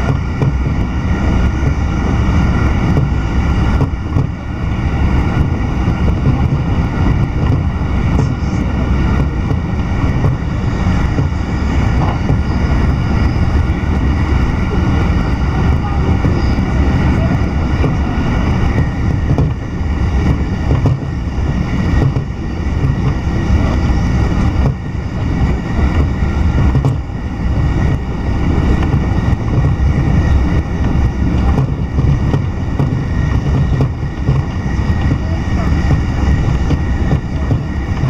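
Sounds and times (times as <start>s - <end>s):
train rumbling from inside carriage: 0.0s - 38.0s.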